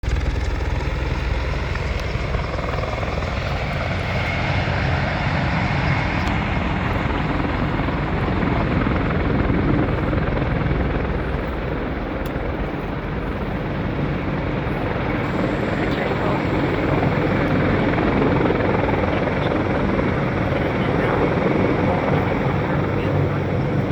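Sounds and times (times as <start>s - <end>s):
helicopter rotor and engine: 0.0s - 23.9s.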